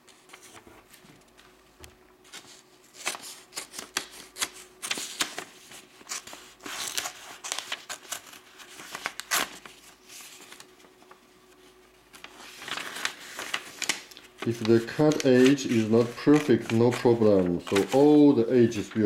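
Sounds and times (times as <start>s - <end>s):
paper rustling: 0.0s - 1.6s, 2.2s - 19.0s.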